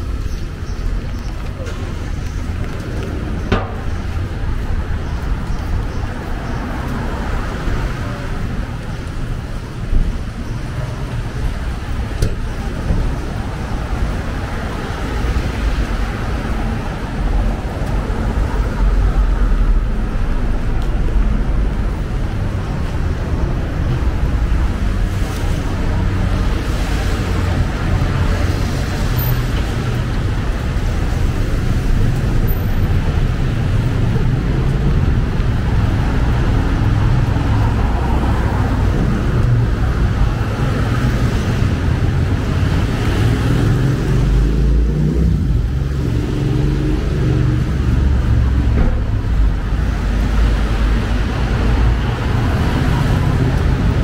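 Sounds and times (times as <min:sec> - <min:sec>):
traffic on wet roads: 0:00.0 - 0:54.0.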